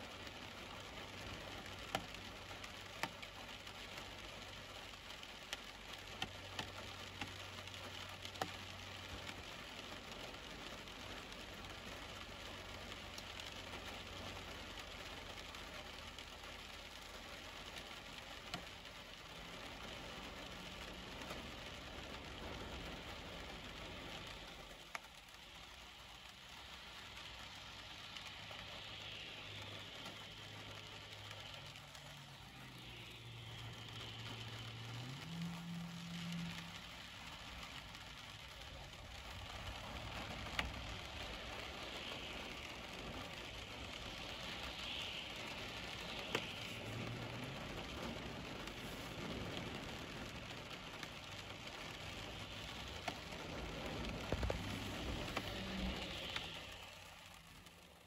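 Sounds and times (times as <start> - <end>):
heavy rain hissing: 0.0 - 58.0
tyre hiss on wet road: 0.0 - 58.0
raindrop taps: 0.2 - 57.7.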